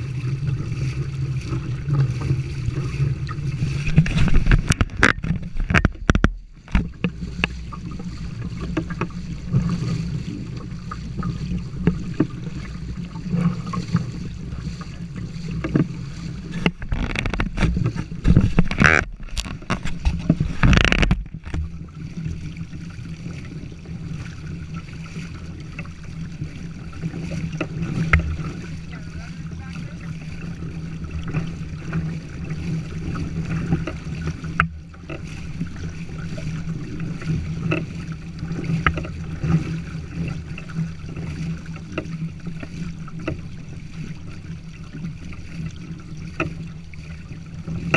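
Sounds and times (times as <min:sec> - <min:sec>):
water splashing against hull: 0:00.0 - 0:47.9
wind rumble on microphone: 0:00.0 - 0:47.9.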